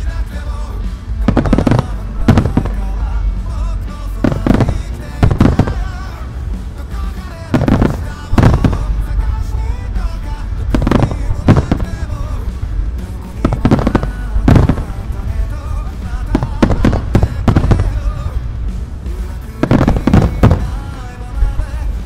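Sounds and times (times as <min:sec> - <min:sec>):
fireworks booming: 0:00.0 - 0:22.0
pop music playing: 0:00.0 - 0:22.0.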